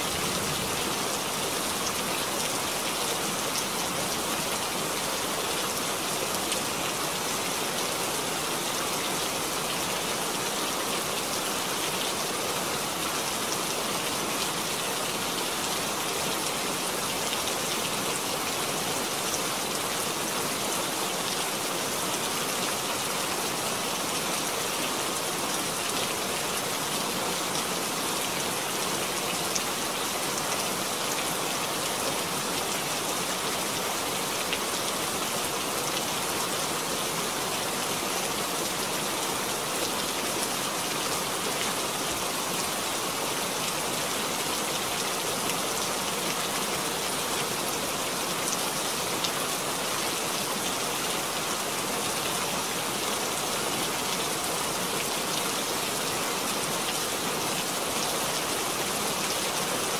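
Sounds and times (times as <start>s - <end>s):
rain splashing into puddle: 0.0s - 49.9s.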